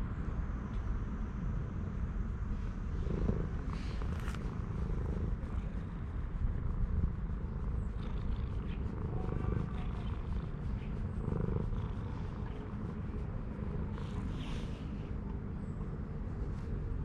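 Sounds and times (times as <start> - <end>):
cat purring: 2.6 - 17.0.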